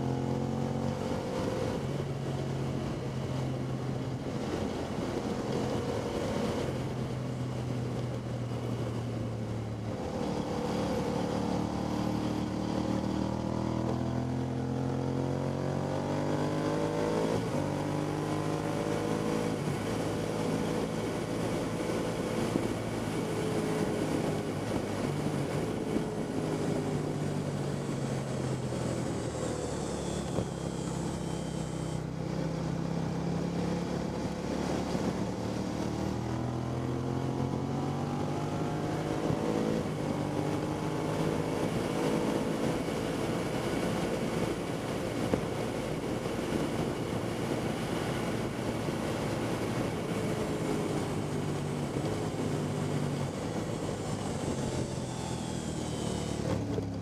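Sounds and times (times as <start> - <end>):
motorcycle engine accelerating: 0.0 - 57.0
wind rushing over microphone: 0.0 - 57.0.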